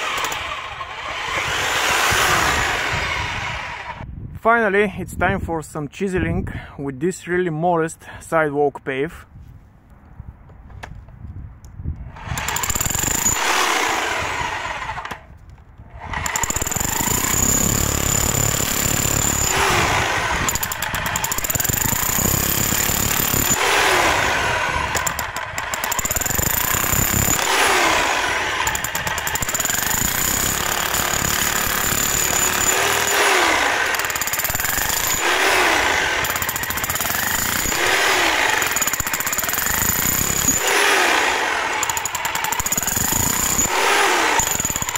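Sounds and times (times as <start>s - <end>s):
hammer drill chiselling concrete: 0.0s - 4.0s, 12.2s - 15.3s, 16.0s - 44.9s.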